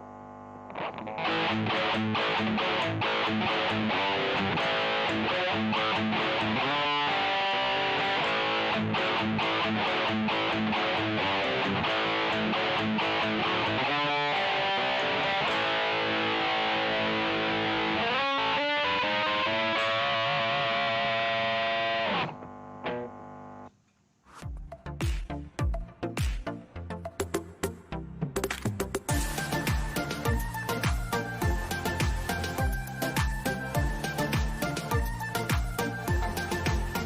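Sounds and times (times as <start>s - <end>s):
distorted electric guitar riffing: 0.6s - 23.7s, 29.1s - 37.0s.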